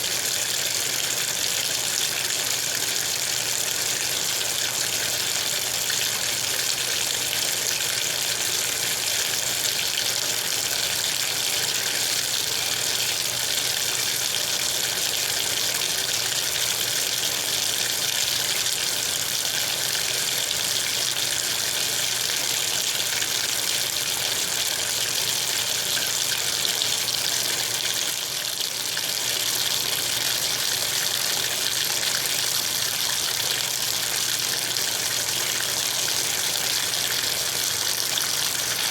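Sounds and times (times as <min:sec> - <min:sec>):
water heater low hiss: 0:00.0 - 0:38.9
water running from tap: 0:00.0 - 0:38.9.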